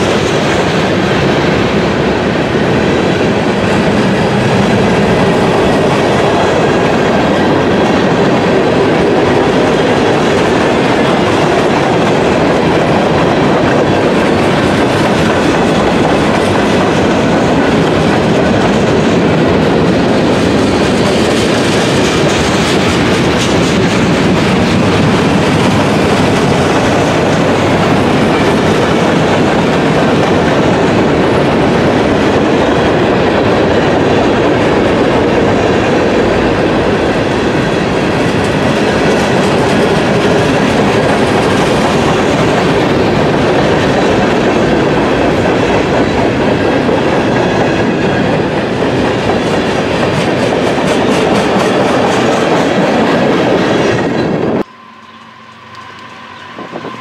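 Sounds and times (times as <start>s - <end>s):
train wheels rolling on track: 0.0s - 57.0s.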